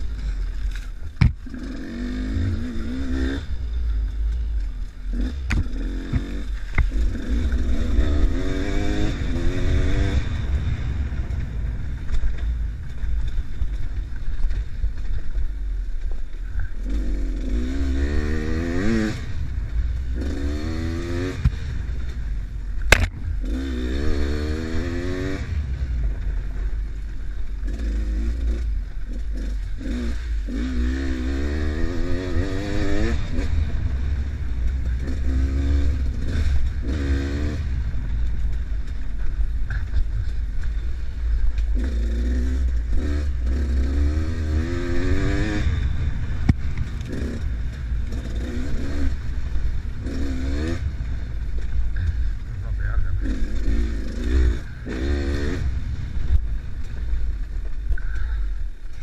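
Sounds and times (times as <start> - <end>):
dirt bike engine revving: 0.0 - 15.4, 16.6 - 59.0.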